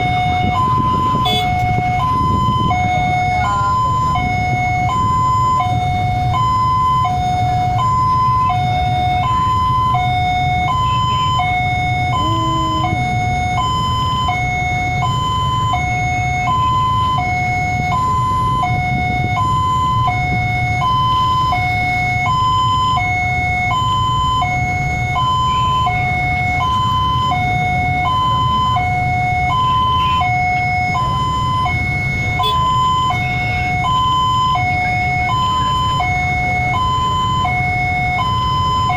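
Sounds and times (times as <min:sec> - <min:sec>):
level-crossing two-tone alarm: 0:00.0 - 0:38.9.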